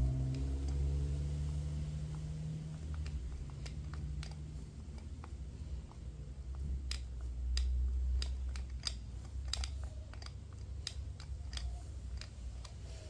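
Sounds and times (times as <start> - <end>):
screwdriver clicking: 2.1 - 13.0.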